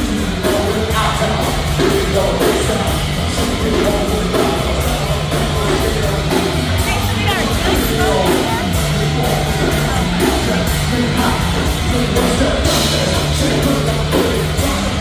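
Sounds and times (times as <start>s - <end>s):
live rock band playing: 0.0s - 15.0s
person singing: 0.0s - 15.0s
steady drum beat: 0.0s - 15.0s.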